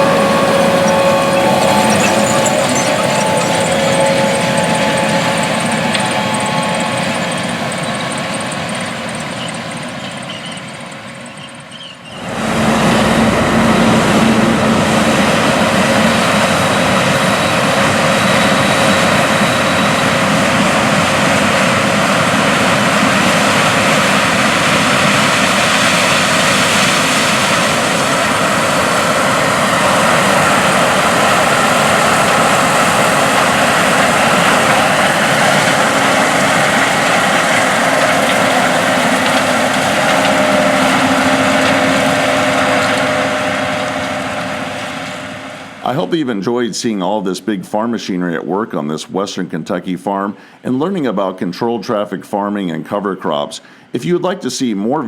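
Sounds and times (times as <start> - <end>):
diesel farm machine droning: 0.0 - 48.6.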